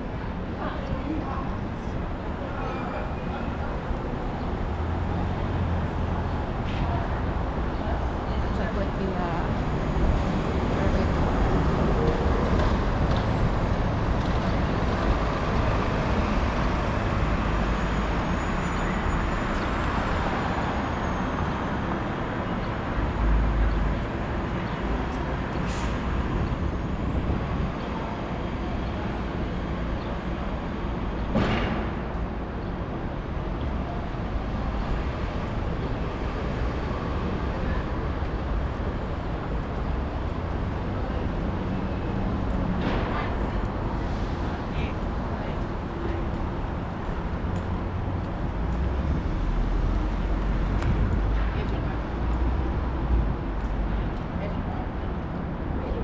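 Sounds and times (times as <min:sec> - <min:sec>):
heavy vehicles passing: 0:00.0 - 0:56.0.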